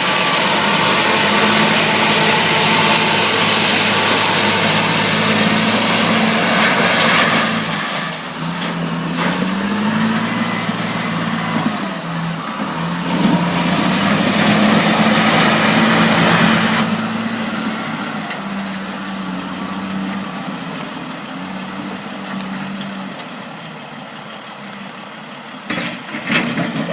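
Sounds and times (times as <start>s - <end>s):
wheel loader diesel engine: 0.0s - 26.9s.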